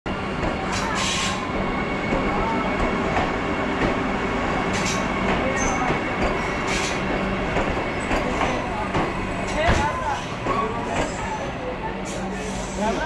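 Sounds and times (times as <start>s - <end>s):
train wheels rumbling on rails: 0.1s - 13.0s.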